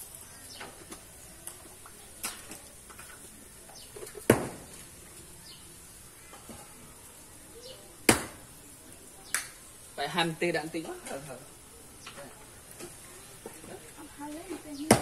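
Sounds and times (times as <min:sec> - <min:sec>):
fire popping and crackling: 0:00.0 - 0:15.0
steady high hiss: 0:00.0 - 0:15.0.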